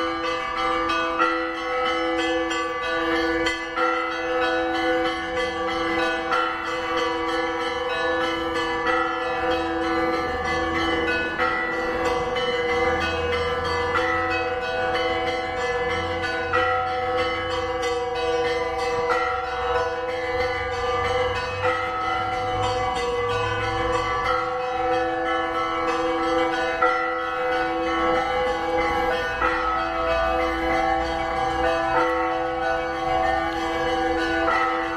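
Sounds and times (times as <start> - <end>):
large bells ringing: 0.0 - 34.9.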